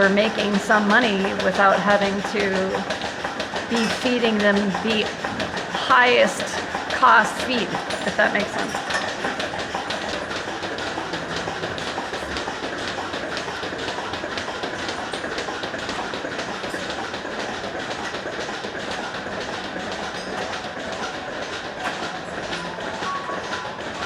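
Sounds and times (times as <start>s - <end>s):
pulsators clicking and hissing: 0.0s - 24.0s.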